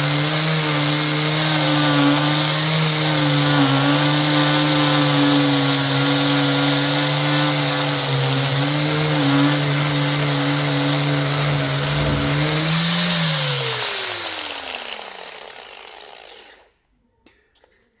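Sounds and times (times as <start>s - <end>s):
power tool motor winding down: 0.0s - 16.7s.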